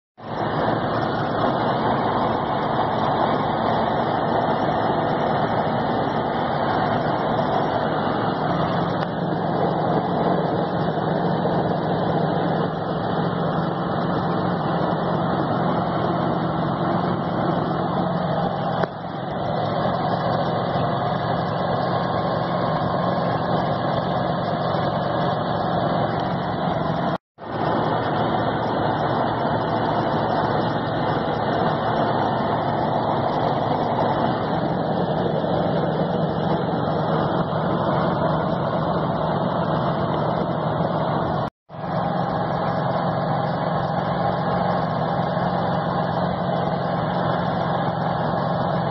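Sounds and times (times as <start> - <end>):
diesel engine drone: 0.2 - 48.9
road noise: 0.2 - 48.9.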